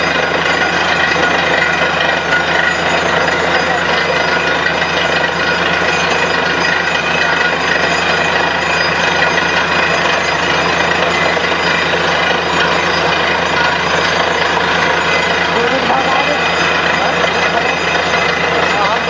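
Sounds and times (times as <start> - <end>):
drilling rig engine and drill din: 0.0 - 19.0.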